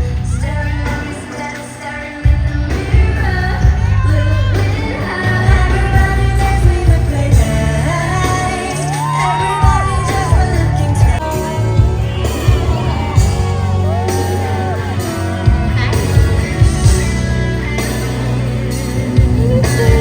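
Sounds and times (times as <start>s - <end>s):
woman singing: 0.0s - 20.0s
heavy bass beat: 2.2s - 20.0s.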